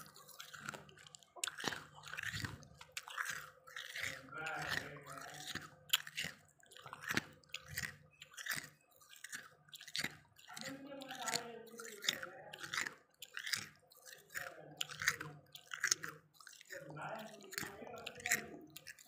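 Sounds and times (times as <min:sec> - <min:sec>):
chewing crunchy frost: 0:00.0 - 0:19.0.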